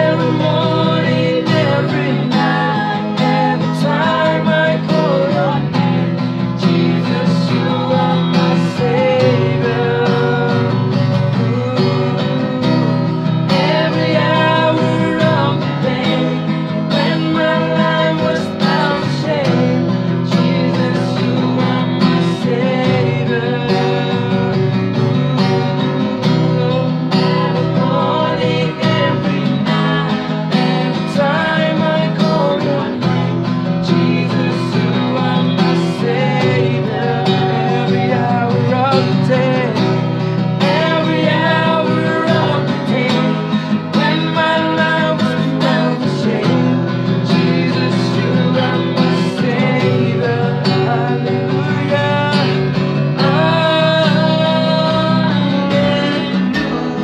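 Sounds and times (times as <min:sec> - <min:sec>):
group of voices singing: 0:00.0 - 0:57.0
strummed acoustic guitar: 0:00.0 - 0:57.0.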